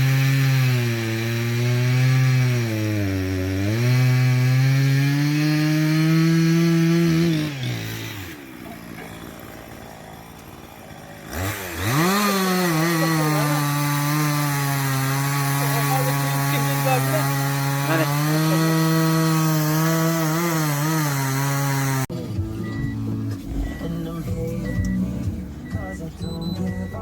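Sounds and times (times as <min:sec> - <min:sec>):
chainsaw running at high revs: 0:00.0 - 0:22.1.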